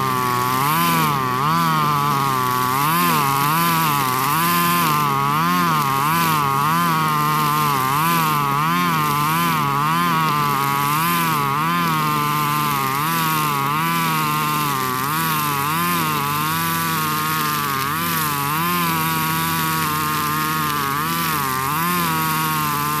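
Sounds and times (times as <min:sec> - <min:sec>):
brush cutter cutting grass: 0:00.0 - 0:23.0.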